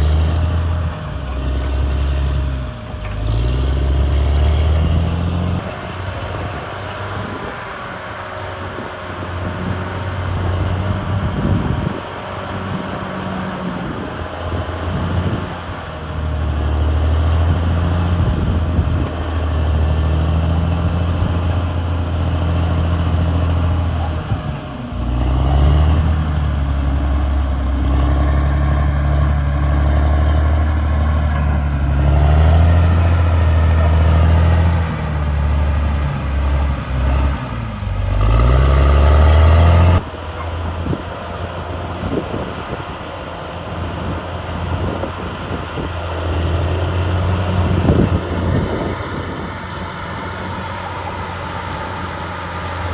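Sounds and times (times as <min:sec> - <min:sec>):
bulldozer diesel engine working: 0:00.0 - 0:52.9.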